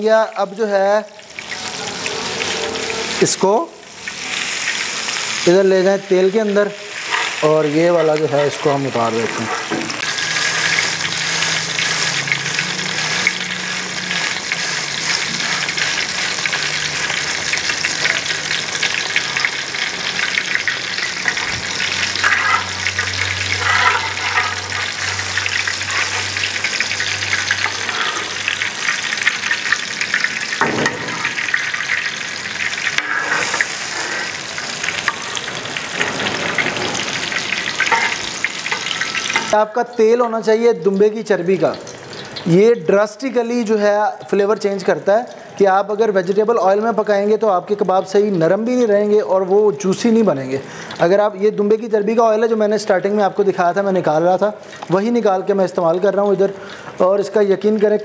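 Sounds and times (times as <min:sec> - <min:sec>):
meat sizzling in hot fat: 0:00.0 - 0:58.0.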